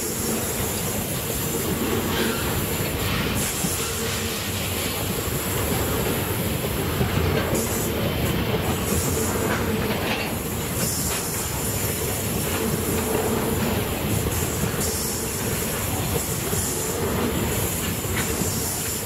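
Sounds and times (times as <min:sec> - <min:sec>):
train wagons rumbling on rails: 0:00.0 - 0:19.0.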